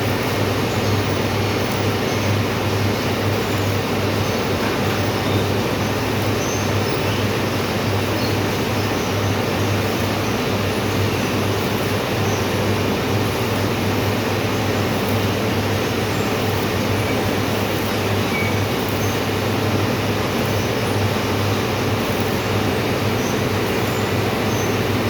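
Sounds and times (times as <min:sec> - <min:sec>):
arc welding hiss: 0:00.0 - 0:25.0.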